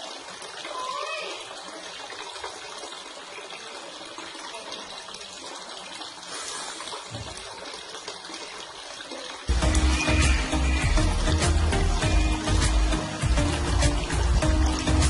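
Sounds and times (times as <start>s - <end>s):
fountain water trickling: 0.0s - 15.0s.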